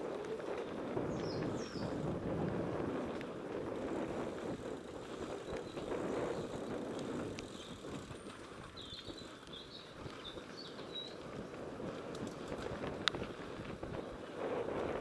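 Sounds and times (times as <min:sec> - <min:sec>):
bike tyres rumbling on gravel: 0:00.0 - 0:15.0.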